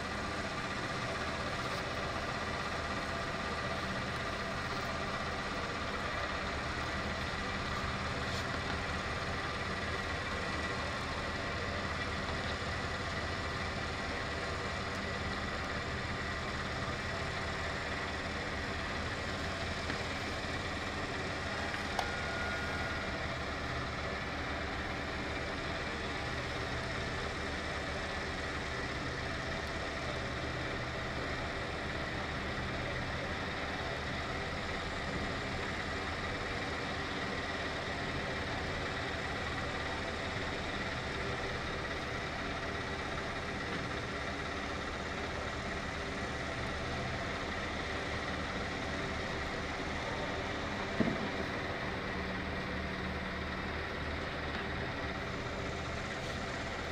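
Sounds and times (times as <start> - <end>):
steady mechanical drone: 0.0 - 56.9.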